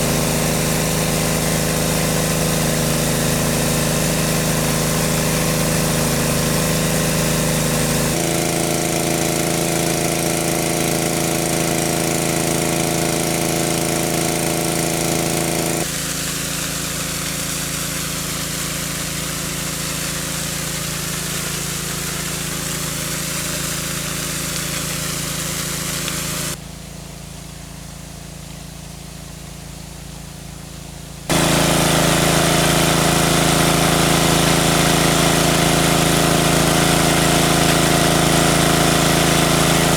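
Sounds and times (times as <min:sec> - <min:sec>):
small engine humming: 0:00.0 - 0:26.6, 0:31.3 - 0:39.9.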